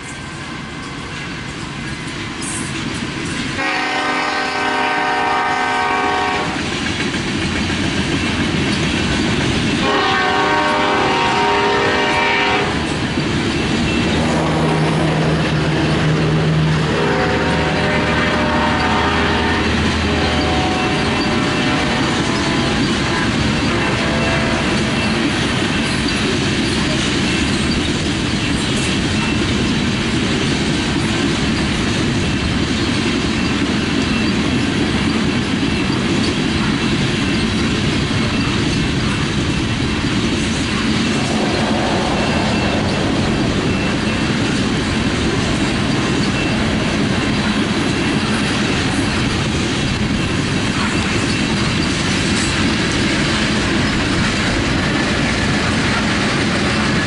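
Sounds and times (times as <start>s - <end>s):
steel wheels rumbling on rail: 0.0s - 57.0s.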